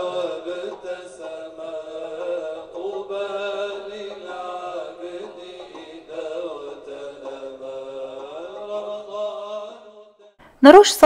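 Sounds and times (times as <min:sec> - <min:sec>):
slow chant-like melody: 0:00.0 - 0:10.4.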